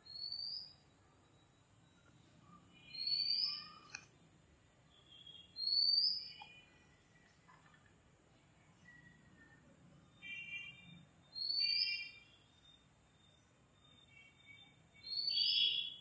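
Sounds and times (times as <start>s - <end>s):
faint bird chirps: 0.0s - 4.2s, 4.8s - 16.0s.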